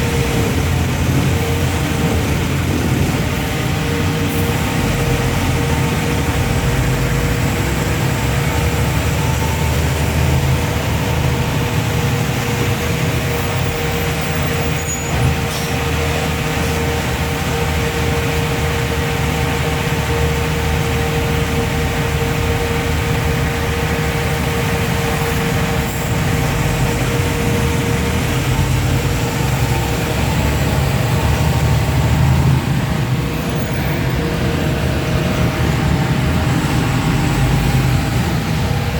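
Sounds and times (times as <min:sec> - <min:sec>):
heavy vehicle engine running: 0:00.0 - 0:38.9
low road rumble: 0:00.0 - 0:38.9.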